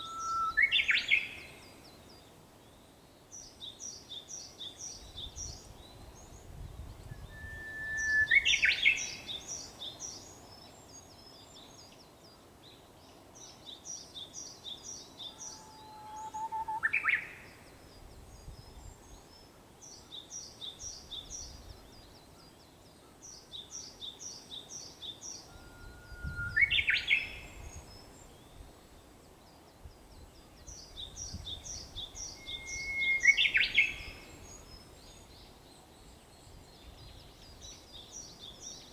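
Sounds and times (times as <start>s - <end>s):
bush warbler singing: 3.4s - 12.3s, 13.1s - 38.9s.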